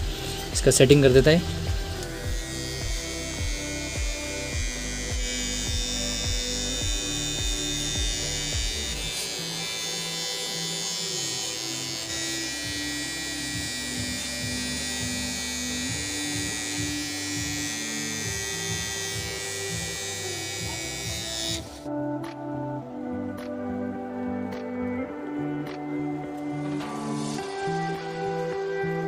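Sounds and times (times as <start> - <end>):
hair trimmer buzzing: 0.0 - 22.4, 24.5 - 29.0
background music: 0.0 - 29.0.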